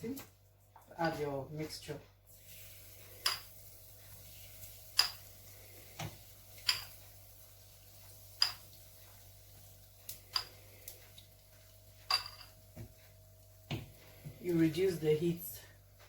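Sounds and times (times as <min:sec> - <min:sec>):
batter frying in oil: 0:00.0 - 0:16.0.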